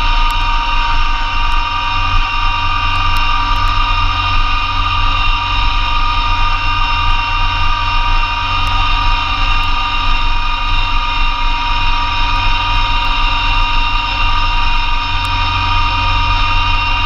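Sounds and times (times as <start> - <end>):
snowblower whine: 0.0 - 17.0
tractor diesel engine running: 0.0 - 17.0.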